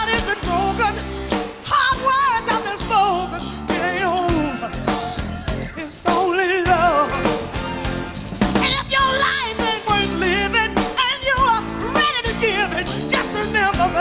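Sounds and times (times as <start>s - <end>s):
person singing with vibrato: 0.0s - 14.0s
rock band playing: 0.0s - 14.0s.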